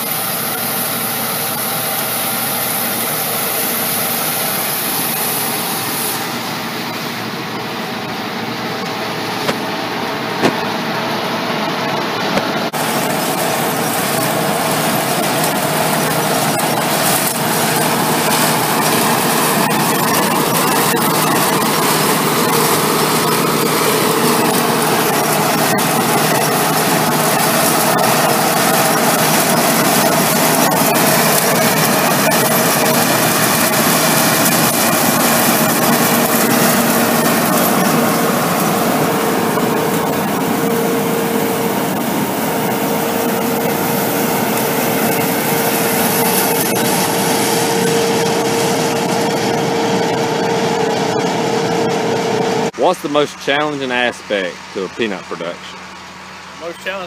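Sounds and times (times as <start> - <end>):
peanut combine running: 0.0 - 57.0
tractor running steadily: 0.0 - 57.0.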